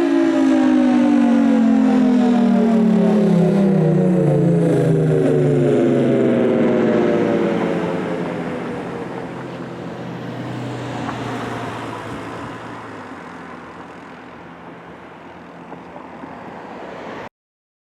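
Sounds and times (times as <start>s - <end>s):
siren winding down: 0.0s - 15.6s.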